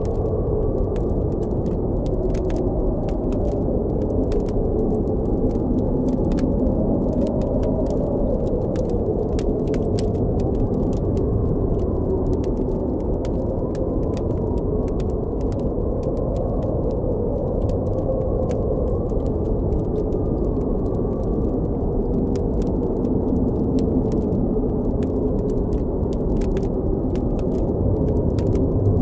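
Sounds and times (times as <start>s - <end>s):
blizzard wind howling: 0.0s - 29.0s
campfire crackling and popping: 0.0s - 29.0s.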